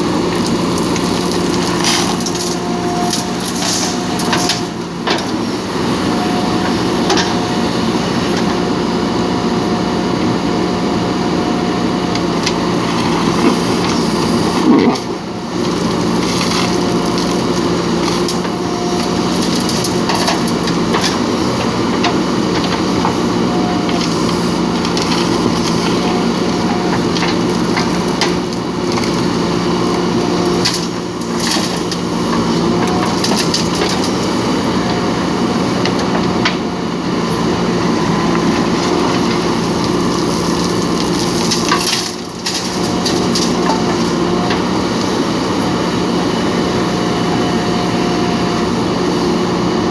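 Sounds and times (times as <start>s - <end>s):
soil and stones crunching: 0.0s - 7.6s, 11.7s - 48.6s
diesel engine under load: 0.0s - 49.9s.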